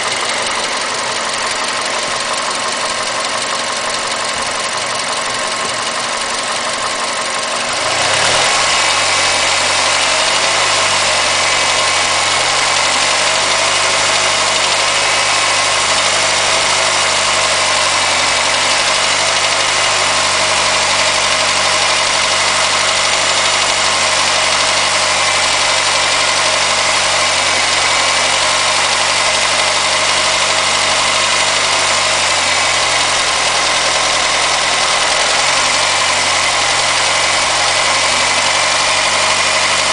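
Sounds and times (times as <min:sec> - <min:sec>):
car engine knocking at low revs: 0:00.0 - 0:39.9.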